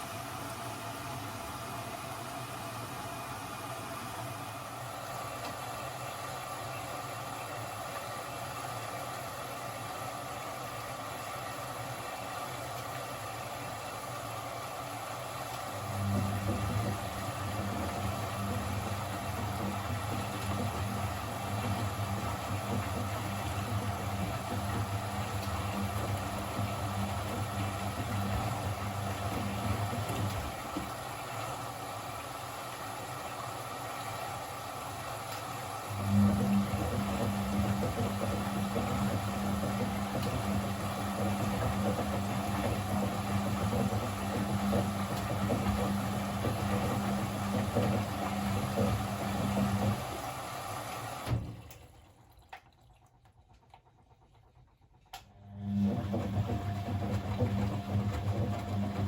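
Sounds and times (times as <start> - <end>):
washing machine drum motor humming: 0.0 - 59.0.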